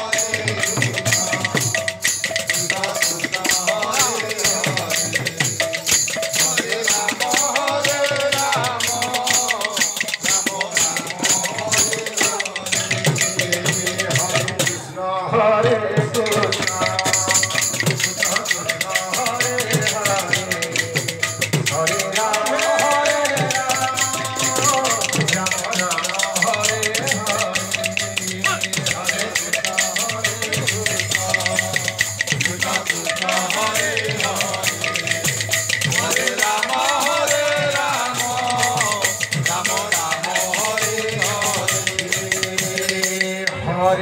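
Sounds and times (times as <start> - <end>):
drum strokes: 0.0 - 14.9, 15.6 - 43.6
group singing: 0.0 - 44.0
jingling percussion: 0.0 - 44.0.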